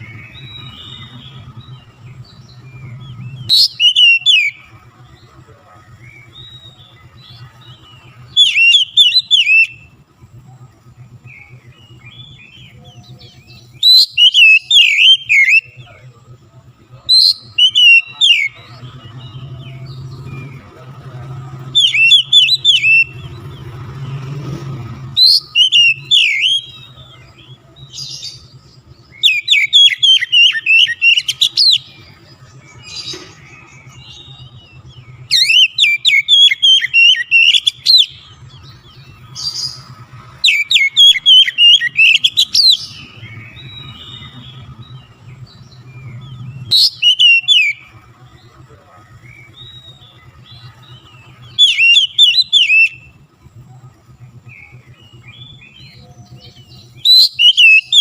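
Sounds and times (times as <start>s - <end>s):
bird singing whistles and chirps: 0.0s - 58.0s.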